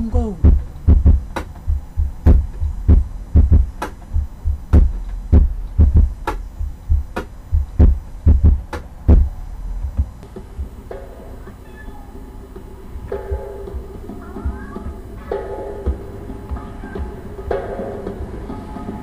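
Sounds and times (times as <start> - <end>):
instrumental drum beat: 0.0 - 19.0.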